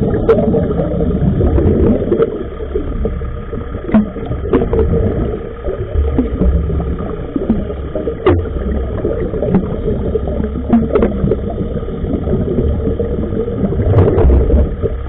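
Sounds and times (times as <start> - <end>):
underwater low rumble: 0.0 - 15.0
water gurgling: 0.0 - 15.0.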